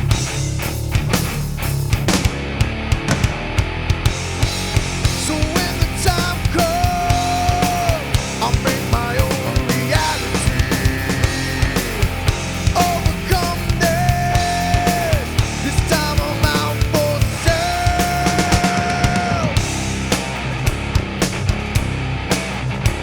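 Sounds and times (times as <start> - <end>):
drums struck steadily: 0.0 - 23.0
nu metal band playing: 0.0 - 23.0.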